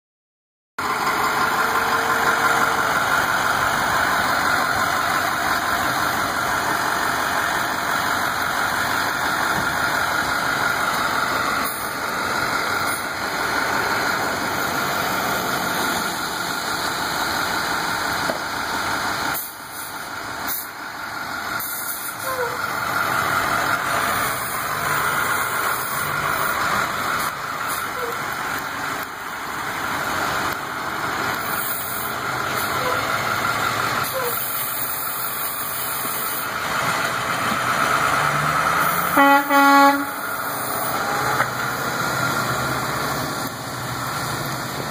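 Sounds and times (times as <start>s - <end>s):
diesel engine idling: 0.8s - 44.9s.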